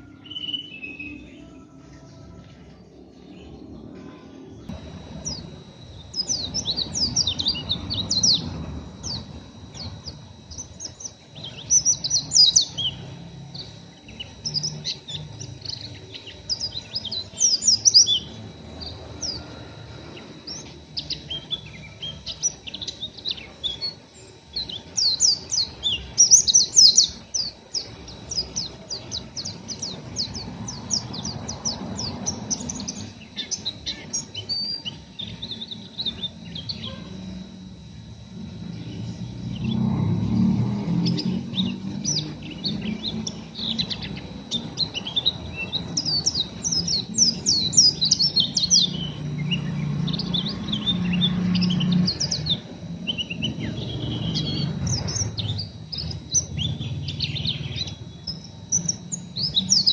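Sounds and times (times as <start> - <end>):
bird twittering high chirps: 0.0 - 2.4, 3.1 - 59.9.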